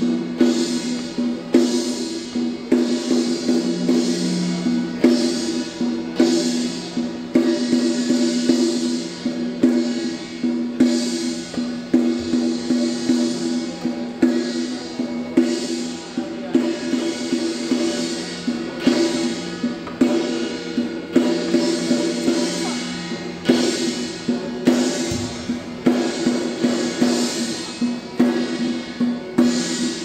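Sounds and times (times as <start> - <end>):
loud cymbal crash: 0.0 - 30.0
temple drums and cymbals: 0.0 - 30.0.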